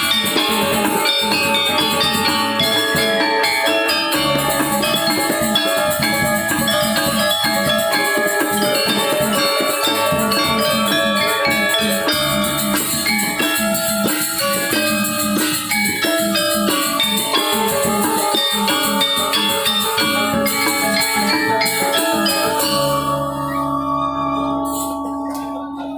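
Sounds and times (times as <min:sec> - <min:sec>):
drums: 0:00.0 - 0:25.9
metallophones ringing: 0:00.0 - 0:25.9.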